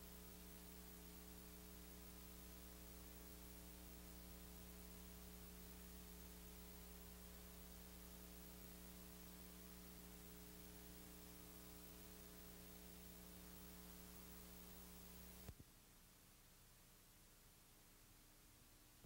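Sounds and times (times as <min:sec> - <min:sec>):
faint mains hum with hiss: 0:00.0 - 0:19.0.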